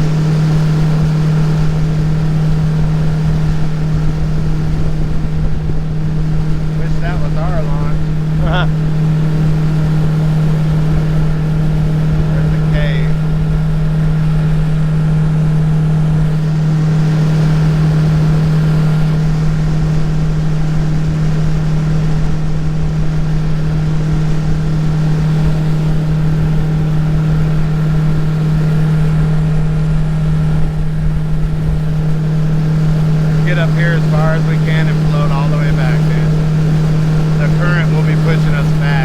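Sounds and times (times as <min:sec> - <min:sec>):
jet boat motor drone: 0:00.0 - 0:39.0
water and hull rumble: 0:00.0 - 0:39.0.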